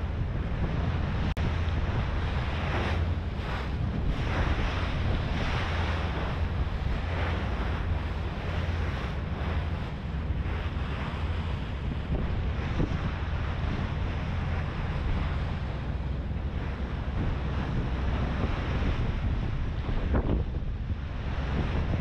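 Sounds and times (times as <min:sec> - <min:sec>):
ferry engine low drone: 0:00.0 - 0:22.0
water rushing along hull: 0:00.0 - 0:22.0
wind buffeting microphone: 0:00.0 - 0:22.0.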